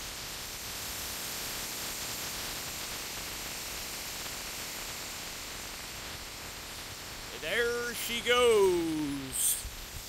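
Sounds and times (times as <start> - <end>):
wind: 0.0 - 10.0.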